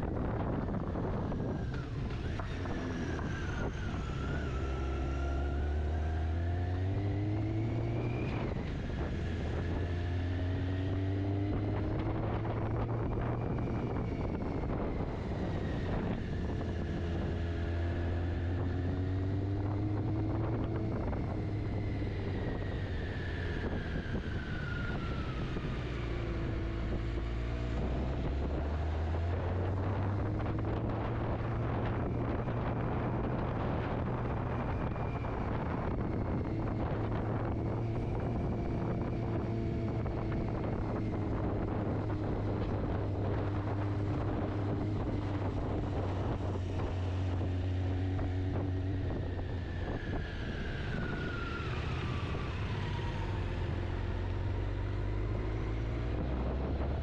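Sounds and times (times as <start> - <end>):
motorcycle engine revving: 0.0 - 57.0
wind buffeting microphone: 0.0 - 57.0.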